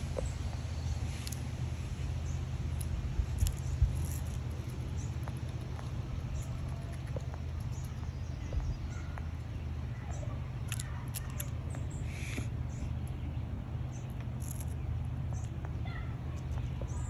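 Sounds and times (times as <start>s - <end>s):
chipmunk chewing: 0.0s - 17.0s
steady low rumble: 0.0s - 17.0s.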